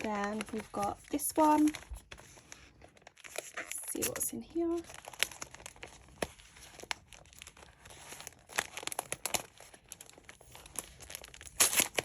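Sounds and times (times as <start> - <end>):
paper wrapping crinkling: 0.0 - 12.0.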